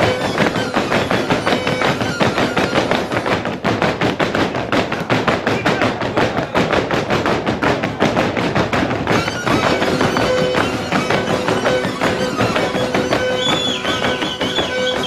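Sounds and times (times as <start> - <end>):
dancers stamping feet: 0.0 - 15.0.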